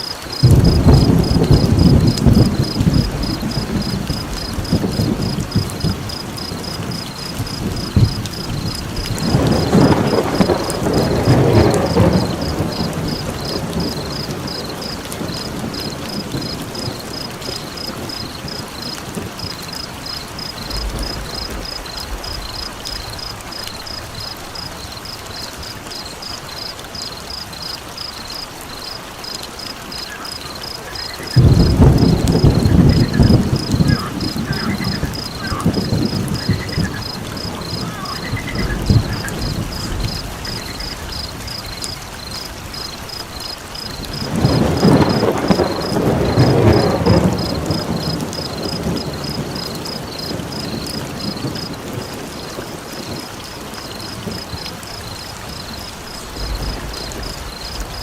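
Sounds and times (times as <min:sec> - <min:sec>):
rain: 0:00.0 - 0:58.0
rolling thunder: 0:00.4 - 0:25.7, 0:29.9 - 0:58.0.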